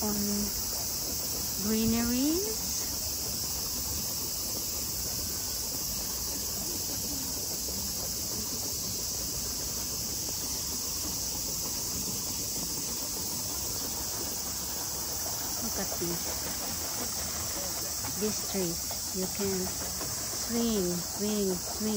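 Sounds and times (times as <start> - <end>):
cicadas droning: 0.0 - 21.9.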